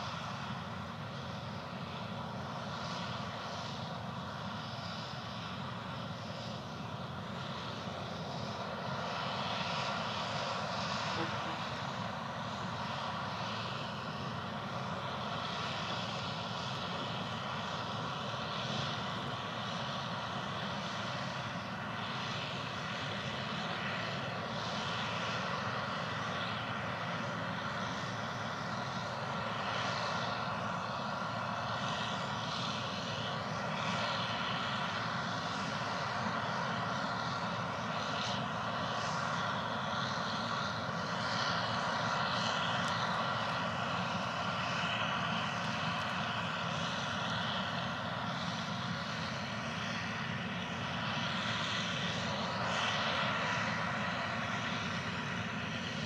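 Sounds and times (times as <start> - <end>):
large engine droning: 0.0 - 56.0.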